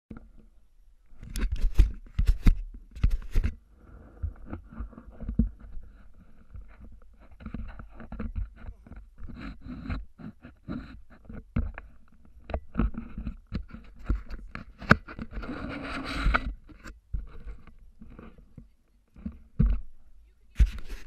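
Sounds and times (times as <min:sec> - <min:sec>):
rubbing and small clicks: 0:00.1 - 0:03.6, 0:04.2 - 0:21.0.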